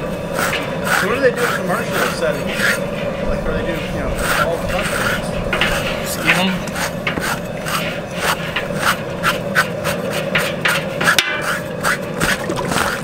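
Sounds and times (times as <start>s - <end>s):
scraper rasping on pig hide: 0.0s - 13.0s.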